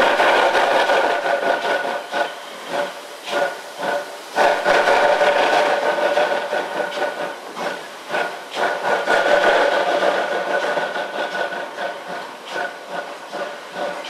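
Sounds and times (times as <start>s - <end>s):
rush of exhaust steam: 0.0s - 14.0s
steam locomotive exhaust chuffs: 0.0s - 14.0s.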